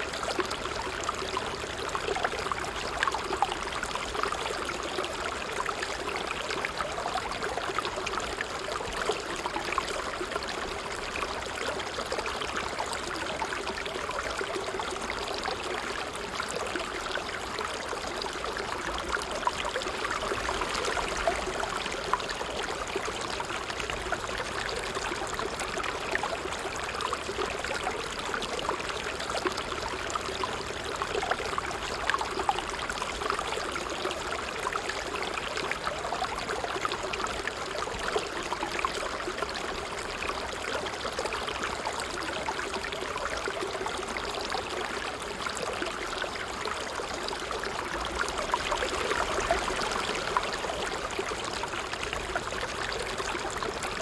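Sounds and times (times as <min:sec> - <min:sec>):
small water splashes and gurgles: 0:00.0 - 0:54.0
water trickling over stones: 0:00.0 - 0:54.0.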